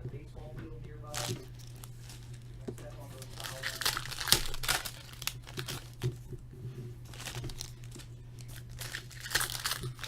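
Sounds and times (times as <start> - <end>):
card packaging crinkling: 1.1 - 6.2, 7.0 - 10.0.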